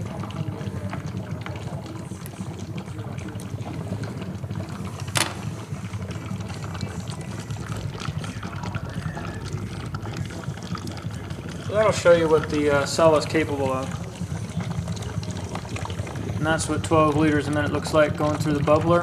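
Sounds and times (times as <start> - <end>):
gas bubbling through water: 0.0 - 19.0.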